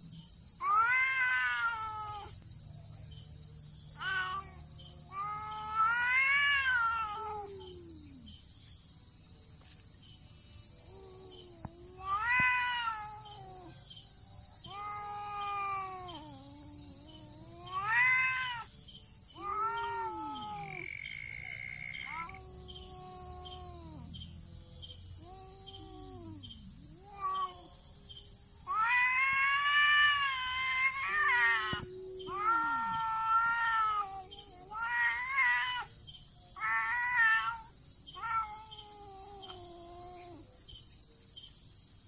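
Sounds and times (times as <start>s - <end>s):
cats yowling: 0.6s - 2.4s, 3.9s - 8.4s, 10.8s - 24.2s, 25.1s - 28.0s, 28.6s - 40.6s.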